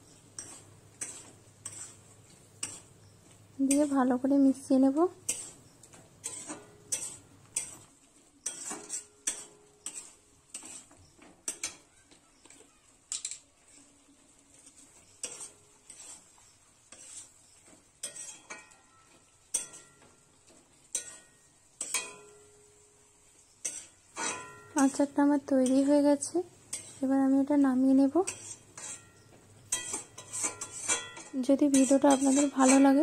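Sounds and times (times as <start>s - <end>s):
metal spatula scraping a pan: 0.0s - 33.0s.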